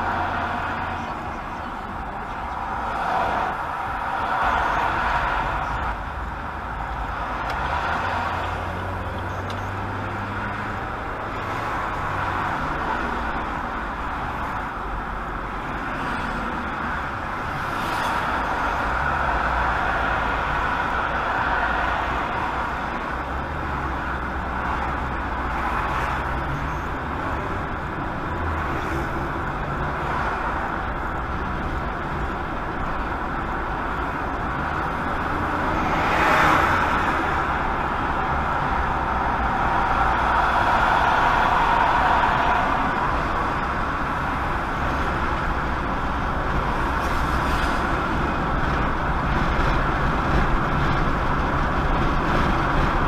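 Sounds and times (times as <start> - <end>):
low engine and road rumble: 0.0 - 53.0.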